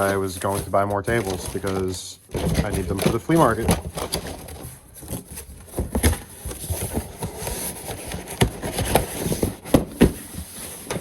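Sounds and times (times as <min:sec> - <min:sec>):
boxes knocking and clattering: 0:00.0 - 0:11.0.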